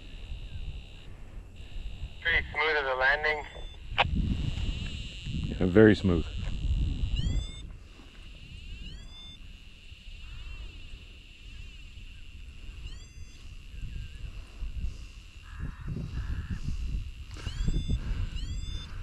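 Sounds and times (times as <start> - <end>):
low wind rumble: 0.0 - 19.0
steady high drone: 0.0 - 19.0.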